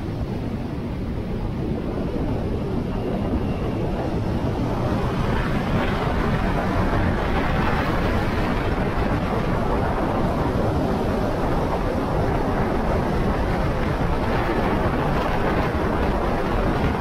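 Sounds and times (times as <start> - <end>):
motorcycle road noise: 0.0 - 17.0
wind across microphone: 0.0 - 17.0.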